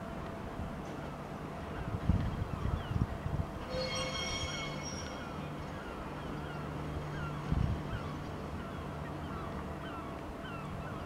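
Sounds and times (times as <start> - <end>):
faint constant hum: 0.0 - 11.0
low rumble of locomotive: 0.0 - 11.0.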